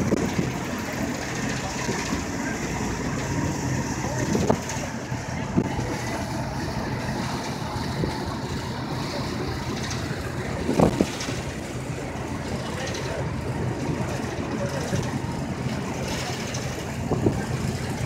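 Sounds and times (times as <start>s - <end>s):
wind on microphone: 0.0s - 12.6s, 13.4s - 18.0s
boat engine running: 0.0s - 18.0s
rush of boat wake: 0.0s - 18.0s.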